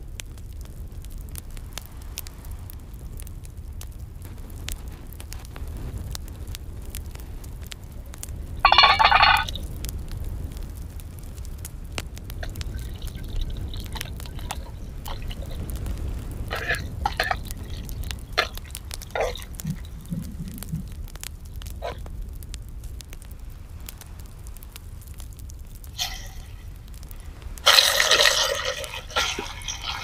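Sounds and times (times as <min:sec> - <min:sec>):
steady low rumble: 0:00.0 - 0:27.7
wood fire crackling: 0:00.0 - 0:30.0.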